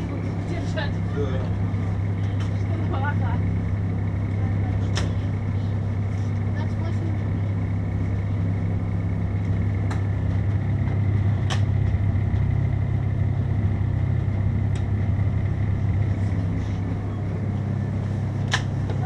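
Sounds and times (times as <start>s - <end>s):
refrigeration compressors humming: 0.0s - 19.0s.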